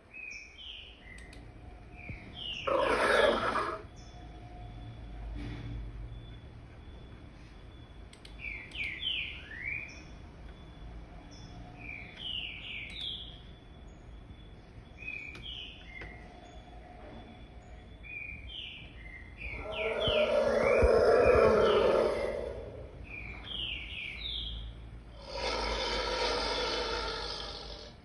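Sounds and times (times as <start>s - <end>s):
bird chirping: 0.0s - 4.9s, 6.1s - 27.9s.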